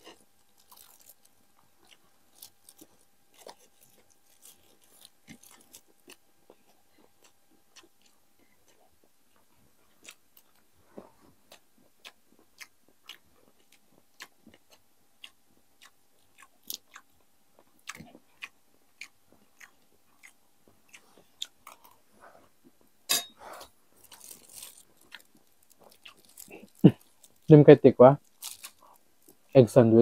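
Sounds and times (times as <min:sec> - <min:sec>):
chewing and crunching food: 0:00.0 - 0:27.6, 0:28.2 - 0:29.7.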